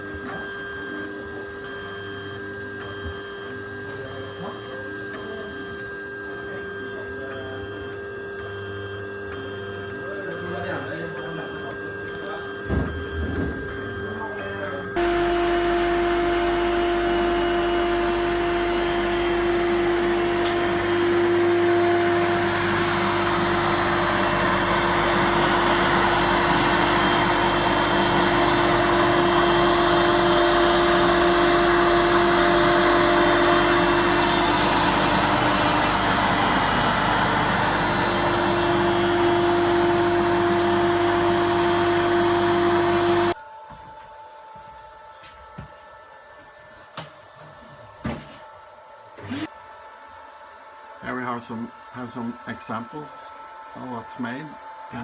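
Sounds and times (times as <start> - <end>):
cnc router spindle whine: 0.0 - 55.0.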